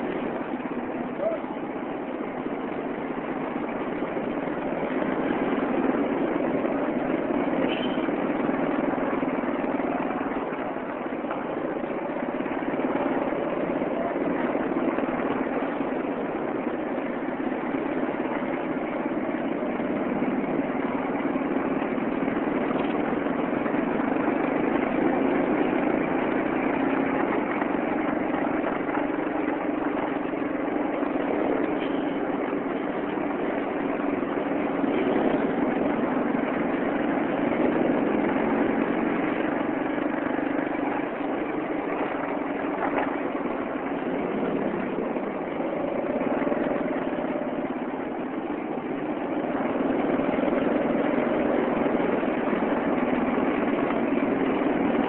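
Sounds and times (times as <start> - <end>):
road and traffic noise: 0.0 - 55.0
vehicle engine running: 0.0 - 55.0.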